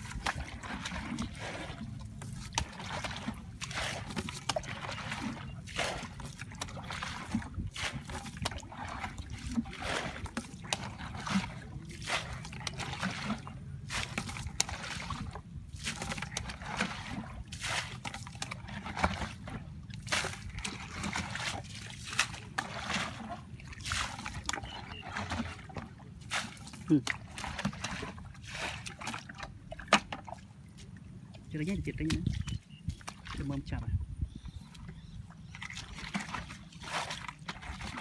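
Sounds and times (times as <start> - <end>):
low steady rumble: 0.0 - 38.0
muddy water splashing: 0.0 - 38.0.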